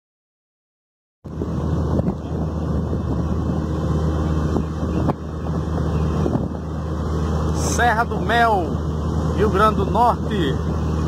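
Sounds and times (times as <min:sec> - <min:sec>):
steady low hum: 0:01.3 - 0:11.0
wind buffeting microphone: 0:01.3 - 0:11.0.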